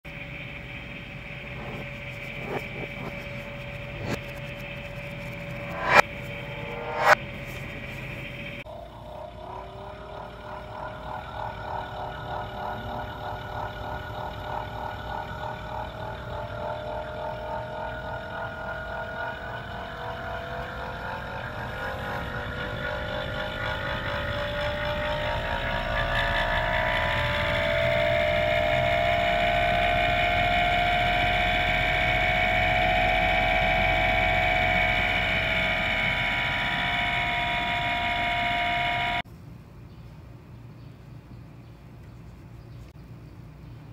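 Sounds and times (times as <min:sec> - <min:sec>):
fan motor squealing whine: 0:00.0 - 0:39.3.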